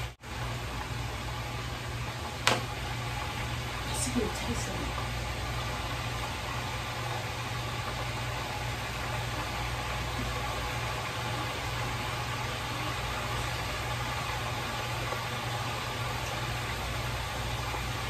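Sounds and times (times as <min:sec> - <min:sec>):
deep fryer hissing: 0:00.0 - 0:18.0.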